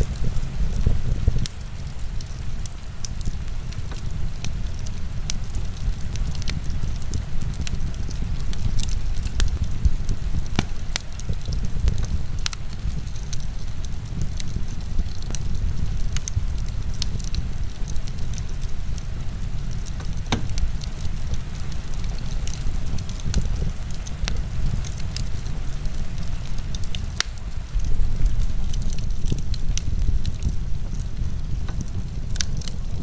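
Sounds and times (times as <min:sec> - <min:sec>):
heavy rain hiss: 0:00.0 - 0:33.0
wood fire crackling: 0:00.0 - 0:33.0.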